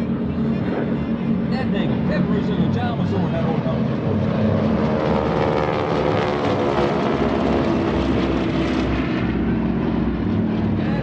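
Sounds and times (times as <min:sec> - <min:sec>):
propeller planes droning past: 0:00.0 - 0:11.0.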